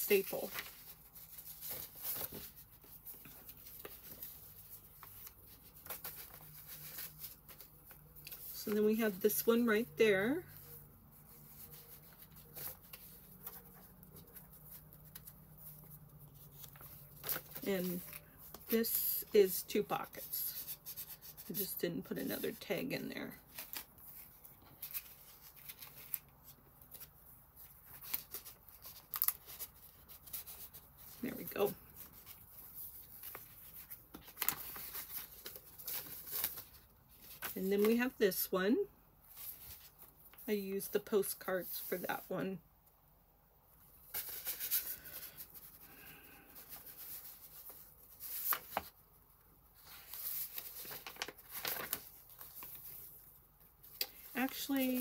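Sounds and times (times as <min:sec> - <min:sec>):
paper rustling: 0:00.0 - 0:22.7, 0:23.4 - 0:38.1, 0:44.0 - 0:49.0, 0:49.8 - 0:55.0.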